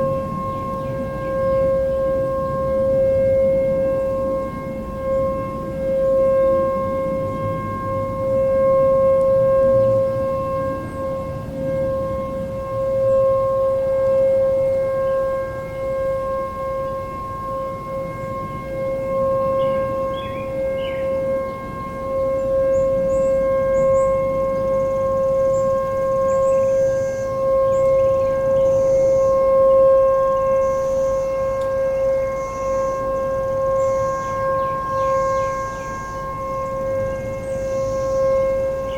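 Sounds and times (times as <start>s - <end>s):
distant warning siren: 0.0s - 38.9s.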